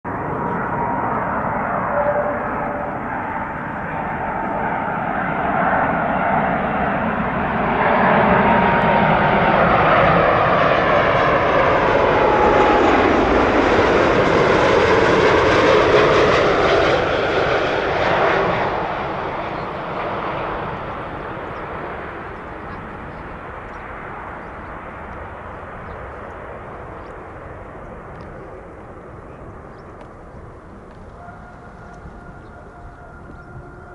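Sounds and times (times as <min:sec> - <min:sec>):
jet airliner flying past: 0:00.1 - 0:33.9.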